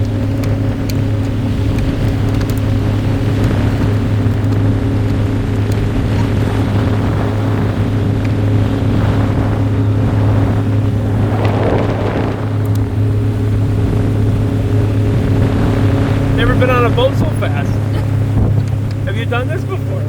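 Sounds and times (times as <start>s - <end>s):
motorboat engine droning: 0.0s - 20.0s
water rushing past: 0.0s - 20.0s
wind buffeting microphone: 0.0s - 20.0s.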